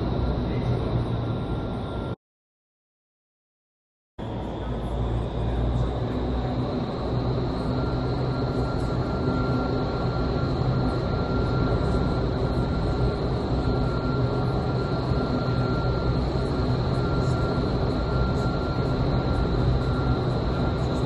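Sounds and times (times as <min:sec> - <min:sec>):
wind tunnel fans roaring: 0:00.0 - 0:02.1, 0:04.2 - 0:21.0
faint high whine: 0:00.0 - 0:02.2, 0:04.2 - 0:21.0.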